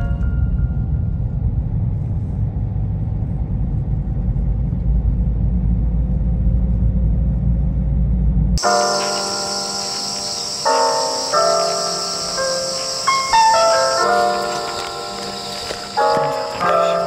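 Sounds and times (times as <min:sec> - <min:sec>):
car engine and tyre rumble: 0:00.3 - 0:17.0.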